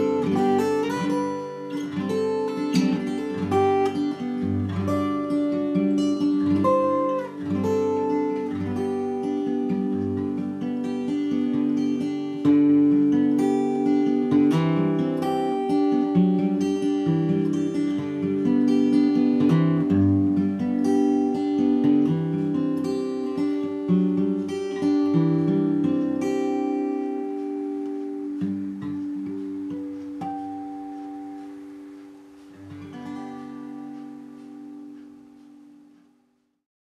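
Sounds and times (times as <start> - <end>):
acoustic guitar picking: 0.0 - 36.6.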